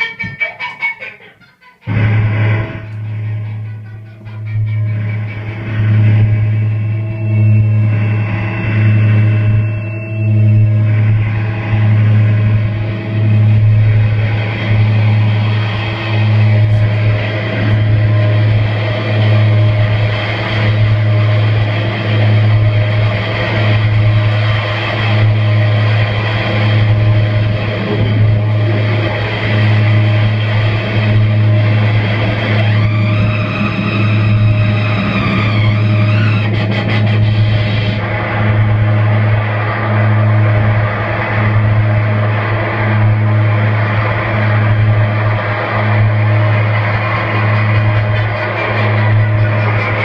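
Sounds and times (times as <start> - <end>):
distorted noise music: 0.0 - 50.0
pulsing low drone: 0.0 - 50.0.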